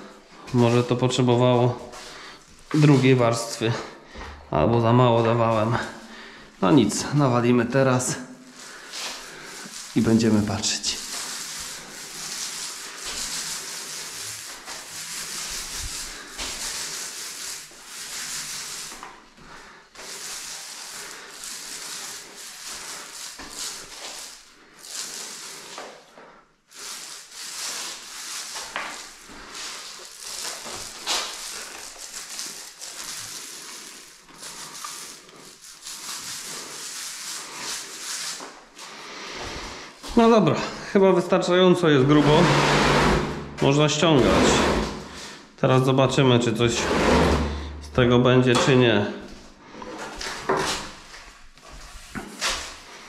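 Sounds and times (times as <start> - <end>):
paint roller hissing on wall: 0.0 - 40.9, 41.8 - 45.6, 46.6 - 47.7, 49.2 - 53.0.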